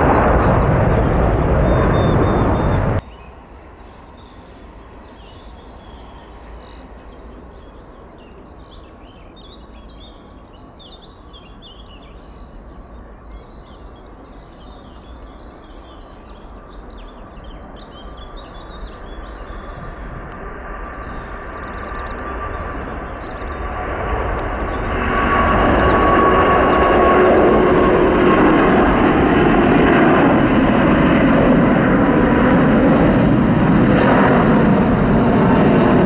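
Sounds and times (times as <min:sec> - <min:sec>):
small birds chirping: 0:00.0 - 0:31.6.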